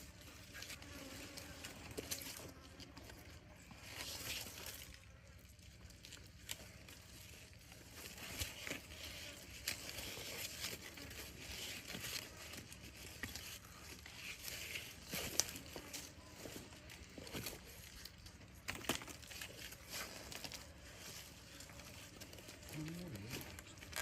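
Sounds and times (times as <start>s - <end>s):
faint rustling and crackling: 0.0s - 24.0s.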